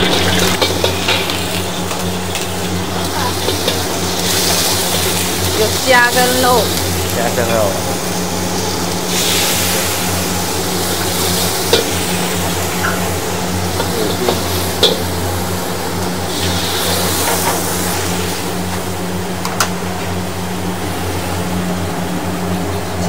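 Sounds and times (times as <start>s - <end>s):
food sizzling in a wok: 0.0s - 23.0s
steady low hum: 0.0s - 23.0s.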